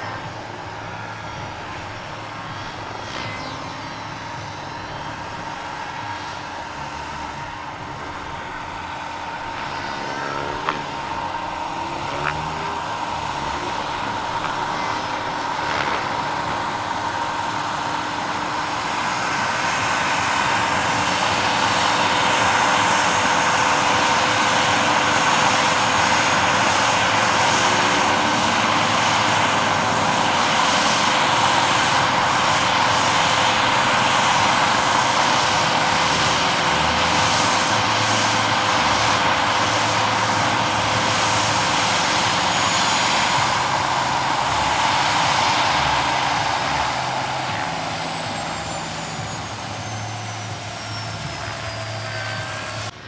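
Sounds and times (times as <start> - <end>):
high turbine whine: 0.0 - 53.0
model helicopter rotor noise: 0.0 - 53.0.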